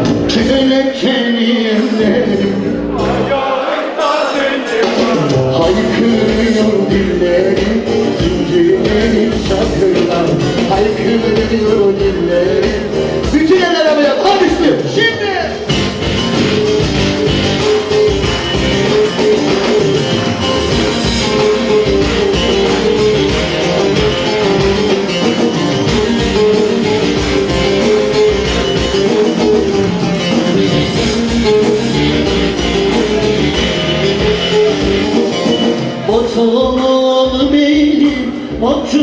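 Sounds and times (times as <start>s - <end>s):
band with plucked lute melody: 0.0s - 39.0s.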